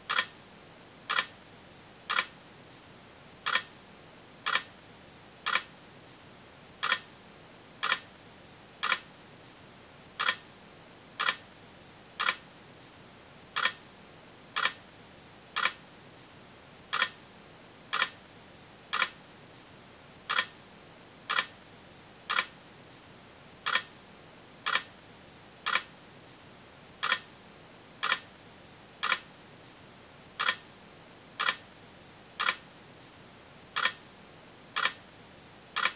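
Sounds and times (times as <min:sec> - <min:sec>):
faint steady hiss: 0:00.0 - 0:35.9.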